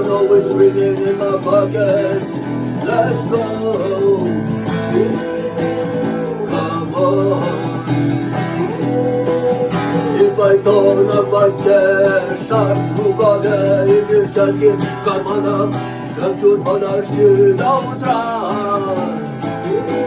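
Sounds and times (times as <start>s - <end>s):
acoustic guitar playing: 0.0s - 20.0s
melodic line: 0.0s - 20.0s.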